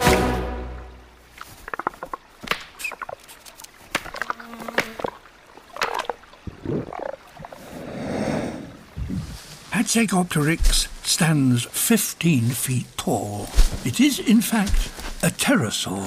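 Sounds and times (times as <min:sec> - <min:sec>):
forest ambience: 0:00.0 - 0:16.0.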